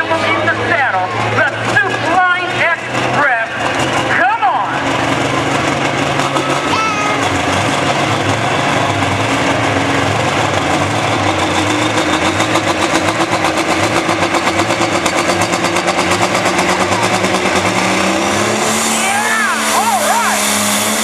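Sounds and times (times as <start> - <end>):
tractor engine at high revs: 0.0 - 21.0.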